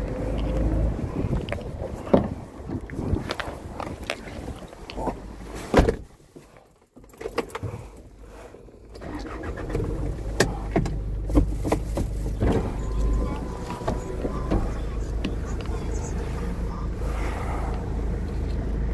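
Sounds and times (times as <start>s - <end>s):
vehicle engine rumbling: 0.0s - 18.9s.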